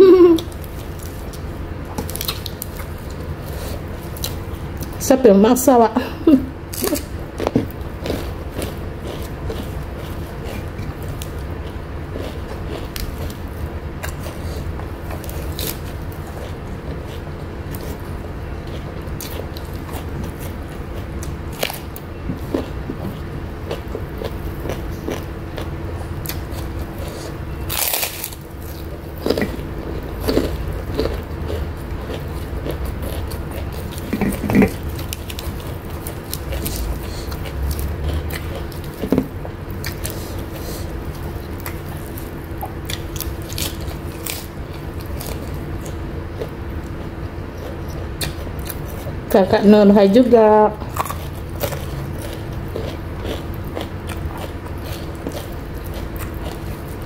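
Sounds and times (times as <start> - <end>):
chewing crisp food: 0.0 - 5.0, 6.7 - 49.4, 50.7 - 57.0.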